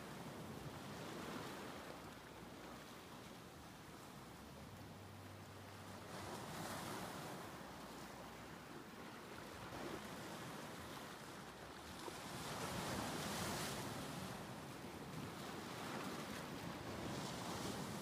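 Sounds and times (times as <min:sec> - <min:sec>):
small waves breaking: 0:00.0 - 0:18.0
wind: 0:00.0 - 0:18.0.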